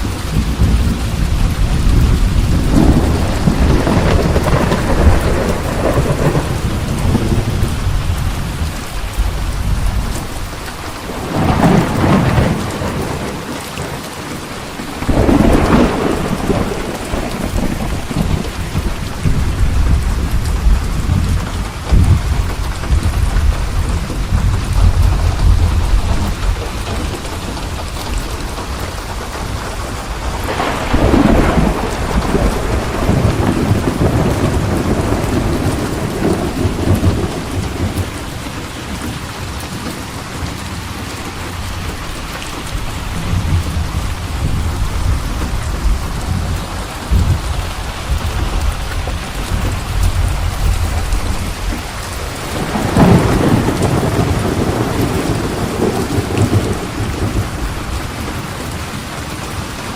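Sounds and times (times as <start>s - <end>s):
heavy rain falling: 0.0s - 59.9s
thunder rumbling: 0.0s - 59.9s.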